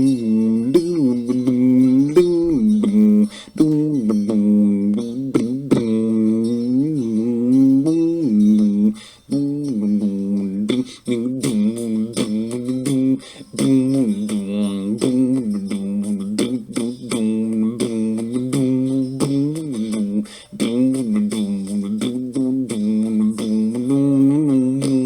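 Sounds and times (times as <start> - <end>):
man vocalising a slow melody: 0.0 - 25.0.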